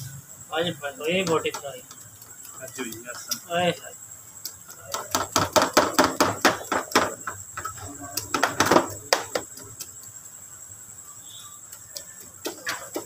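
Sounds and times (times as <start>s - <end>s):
basting brush tapping metal tray: 0.8s - 10.2s, 11.6s - 13.0s.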